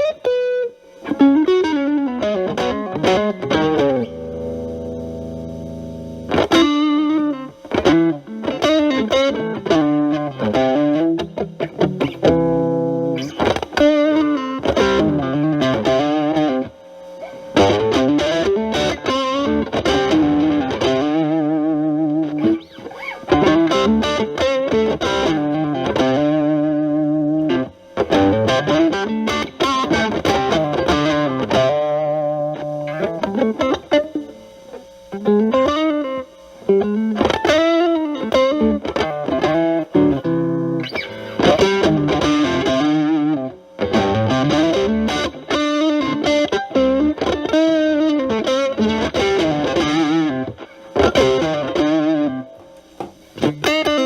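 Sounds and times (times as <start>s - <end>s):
overdriven electric guitar lead: 0.0s - 54.0s.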